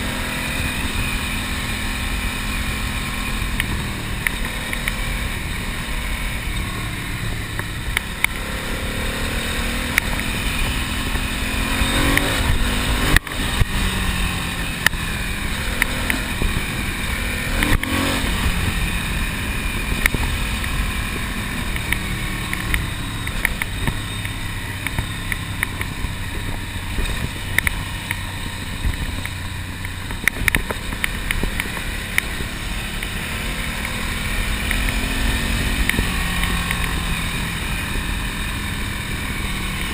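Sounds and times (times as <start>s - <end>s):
constant rush of noise: 0.0s - 39.9s
motorcycle engine running: 0.0s - 39.9s.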